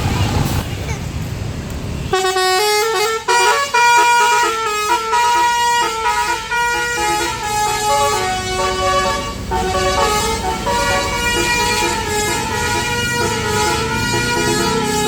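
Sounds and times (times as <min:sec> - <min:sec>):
low engine rumble: 0:00.0 - 0:15.0
bus musical horn tune: 0:02.0 - 0:15.0.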